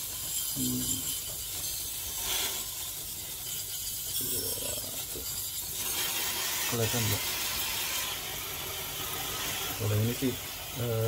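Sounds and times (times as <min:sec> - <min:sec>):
water spray hissing: 0:00.0 - 0:11.0.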